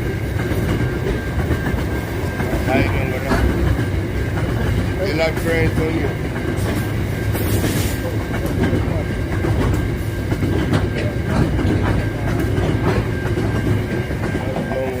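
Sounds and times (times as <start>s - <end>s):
train rumbling past: 0.0s - 15.0s
wheels clacking over rail joints: 0.0s - 15.0s.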